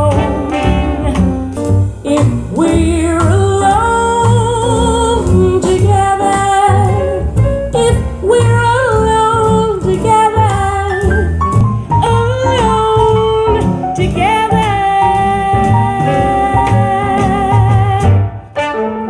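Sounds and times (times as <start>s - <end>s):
swing band with walking bass: 0.0s - 19.0s.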